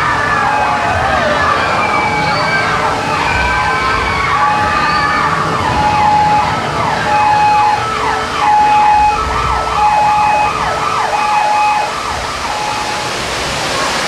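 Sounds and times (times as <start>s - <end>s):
emergency sirens: 0.0s - 14.0s
flood water pouring: 0.0s - 14.0s.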